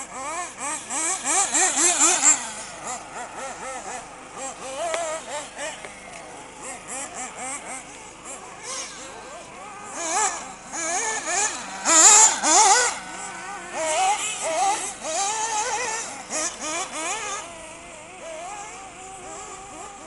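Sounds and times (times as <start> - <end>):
rc buggy motors revving: 0.0 - 20.0.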